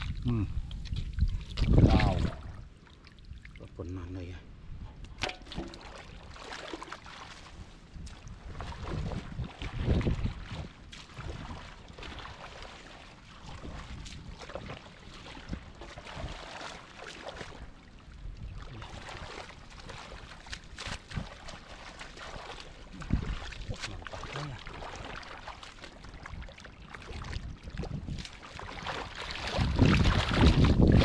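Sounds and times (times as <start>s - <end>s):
wind rumble on microphone: 0.0s - 6.3s, 7.3s - 31.0s
muddy water sloshing and splashing: 0.0s - 31.0s.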